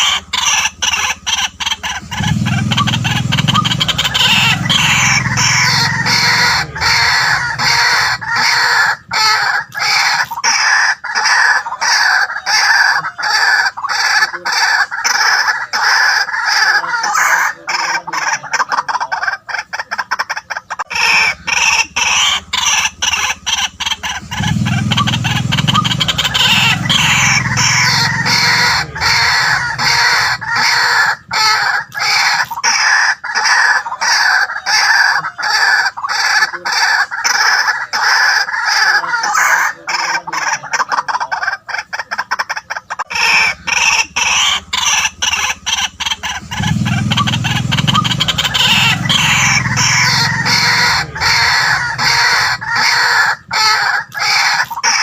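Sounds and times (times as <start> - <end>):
waterhen calling harsh notes: 0.0 - 55.0.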